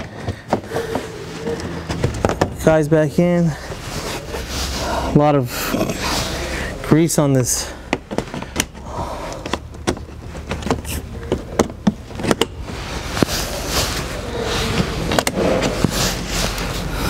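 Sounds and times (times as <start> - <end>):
rubbing and handling noise: 0.0 - 17.0.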